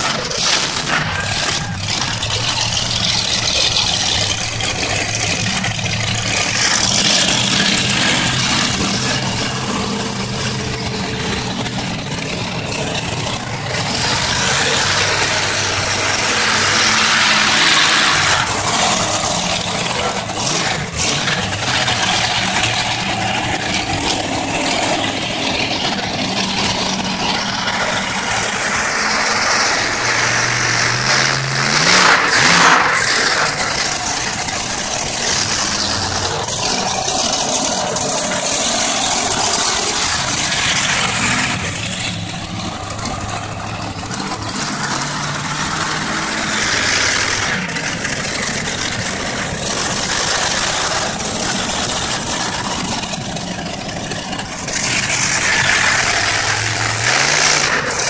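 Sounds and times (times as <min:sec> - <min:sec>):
truck engine running at low revs: 0:00.0 - 0:58.0.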